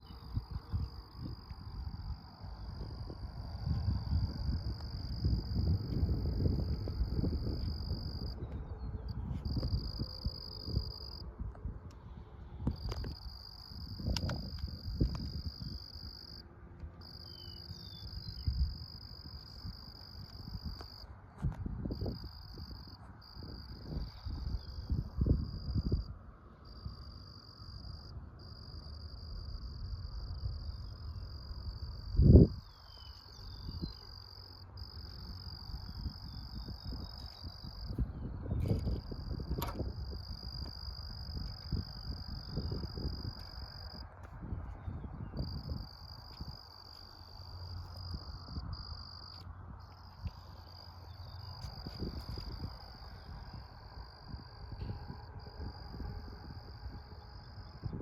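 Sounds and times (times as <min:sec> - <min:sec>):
insects trilling: 0:00.0 - 0:11.2, 0:12.6 - 0:16.4, 0:17.0 - 0:21.2, 0:21.8 - 0:58.0
wind rumble on microphone: 0:00.0 - 0:58.0.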